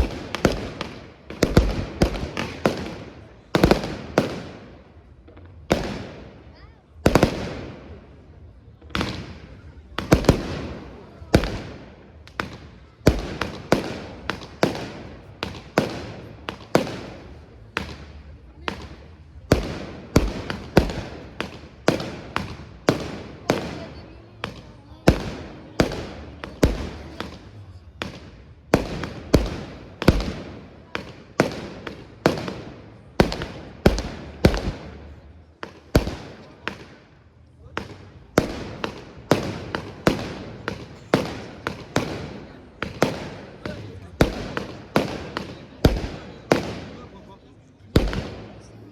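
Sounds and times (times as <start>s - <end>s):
fireworks bursting with echoing bangs: 0.0s - 48.9s.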